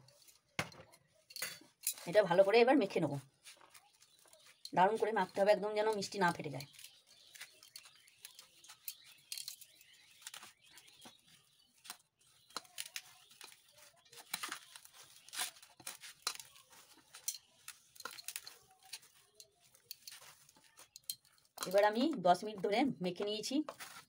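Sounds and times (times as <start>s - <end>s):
hands kneading dough: 2.0s - 24.0s.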